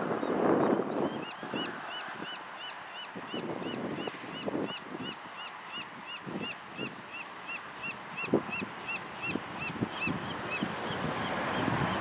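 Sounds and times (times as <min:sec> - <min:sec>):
lower bird calls: 0:00.2 - 0:12.0.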